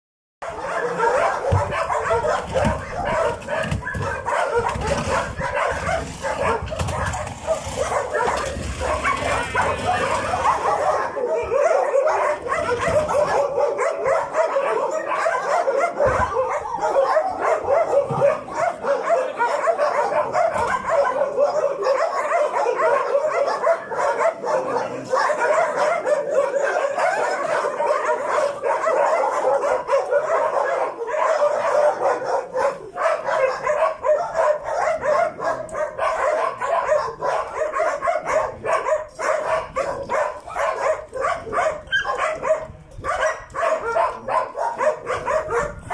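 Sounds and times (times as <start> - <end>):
dogs barking and yelping: 0.4 - 45.9.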